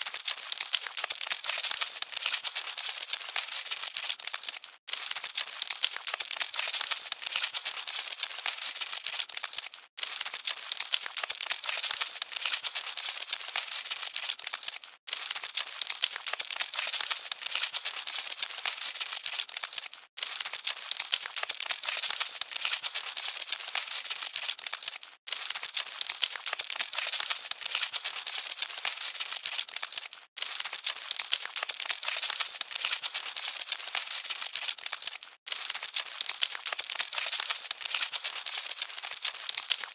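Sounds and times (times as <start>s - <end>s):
cockroaches scuttling and crackling: 0.0s - 39.9s.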